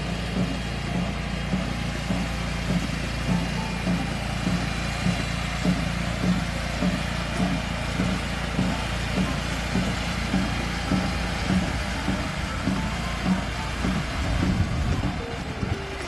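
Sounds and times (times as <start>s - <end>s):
engine running with low pulse: 0.0s - 16.0s.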